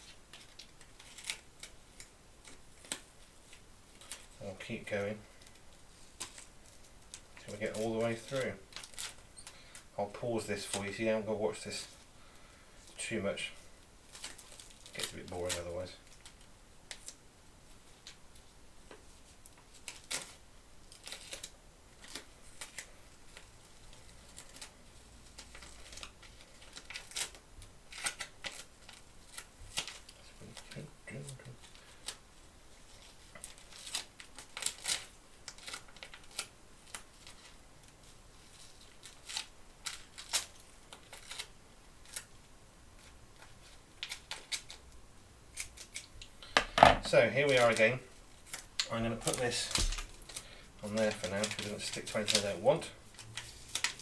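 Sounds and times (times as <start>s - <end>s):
tape crackling and clicking: 0.0s - 11.0s, 18.0s - 42.4s, 43.0s - 54.0s.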